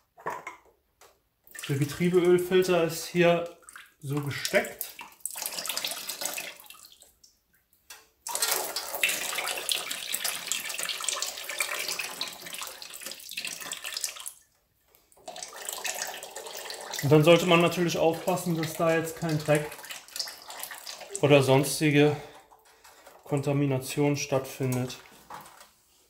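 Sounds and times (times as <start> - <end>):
fluid running and splashing: 1.5 - 7.2, 8.3 - 14.4, 15.1 - 25.6.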